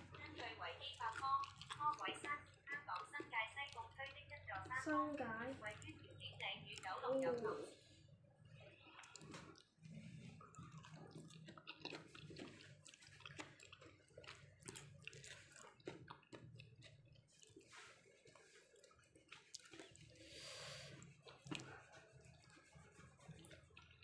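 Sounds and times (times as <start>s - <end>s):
wet chewing sounds: 0.0s - 24.0s.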